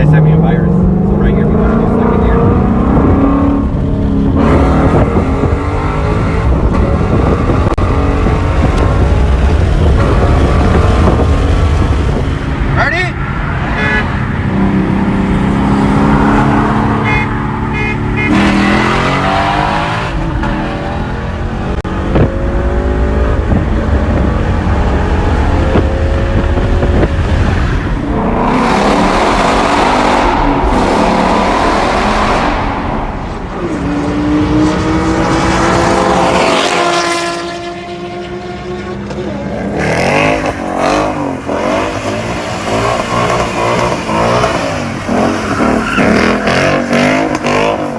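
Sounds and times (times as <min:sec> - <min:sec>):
car engine revving hard: 0:00.0 - 0:12.8, 0:13.5 - 0:38.8, 0:39.6 - 0:47.9.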